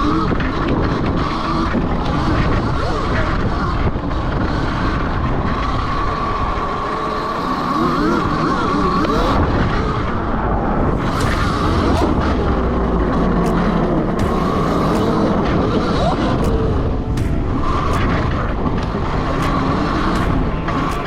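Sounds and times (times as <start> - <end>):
electric motor whining: 0.0 - 21.0
tyre rumble: 0.0 - 21.0
wind: 0.0 - 21.0.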